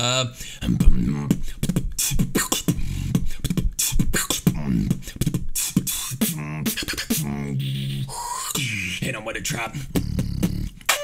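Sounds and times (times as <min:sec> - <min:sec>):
person beatboxing: 0:00.0 - 0:11.0
wavering vocal sound: 0:00.0 - 0:11.0.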